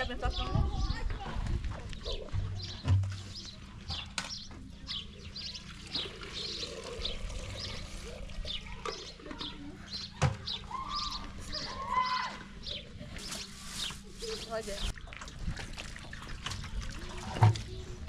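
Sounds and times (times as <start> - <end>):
small birds chirping: 0.0 - 15.1, 16.1 - 18.0.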